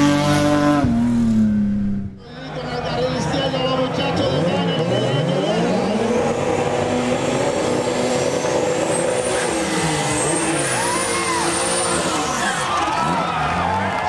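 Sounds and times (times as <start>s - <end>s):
race car engines revving hard: 0.0s - 14.0s.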